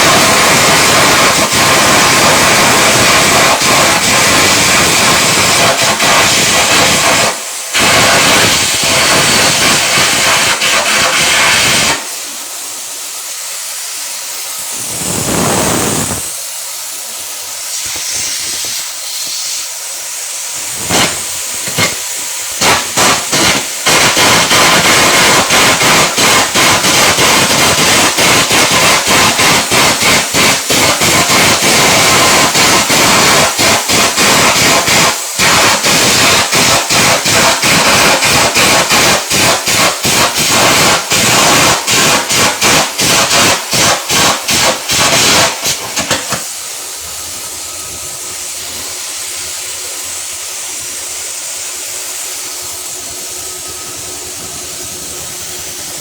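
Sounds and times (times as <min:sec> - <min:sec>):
electric arc welding crackling: 0:00.0 - 0:13.0, 0:13.8 - 0:46.5.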